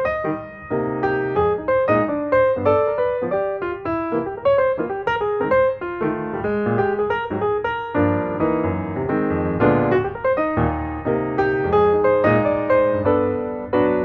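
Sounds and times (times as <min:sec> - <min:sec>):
light piano music: 0:00.0 - 0:14.0.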